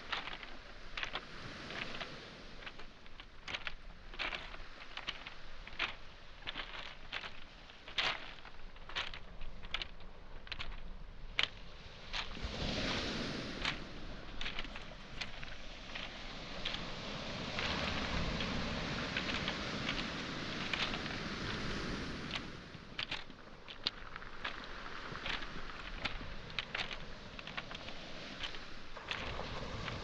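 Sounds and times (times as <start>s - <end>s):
wave breaking: 0.0s - 10.8s, 11.4s - 30.0s
footsteps on pebbles: 0.0s - 30.0s
surf washing: 0.0s - 30.0s.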